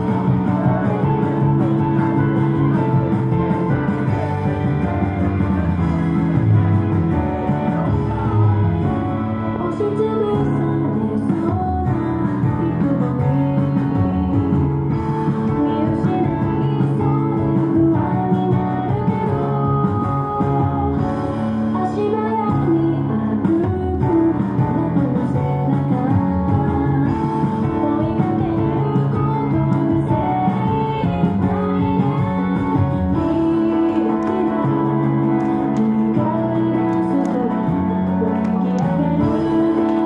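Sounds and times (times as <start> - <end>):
upbeat pop song with singing: 0.0 - 40.0.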